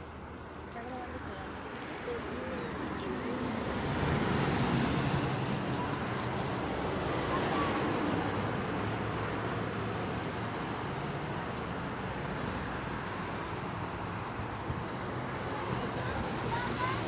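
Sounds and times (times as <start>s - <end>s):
rush of cars: 0.0s - 17.0s
truck passing: 1.1s - 17.0s.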